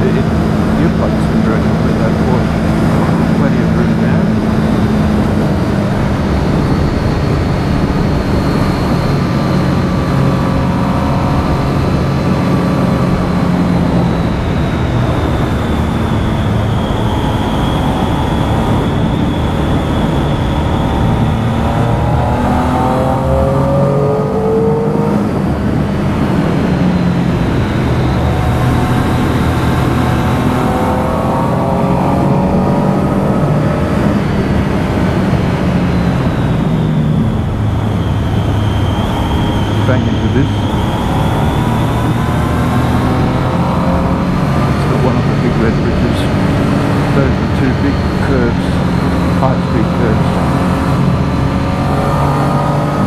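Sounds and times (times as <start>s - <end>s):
motorcycle engine revving: 0.0s - 53.0s
thin high whine: 0.0s - 53.0s
wind and road noise: 0.0s - 53.0s.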